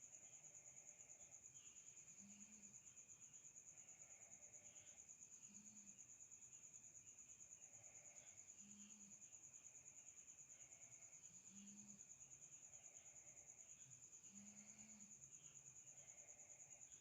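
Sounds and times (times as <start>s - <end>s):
faint lower chirping: 0.0s - 17.0s
high-pitched cricket trill: 0.0s - 17.0s.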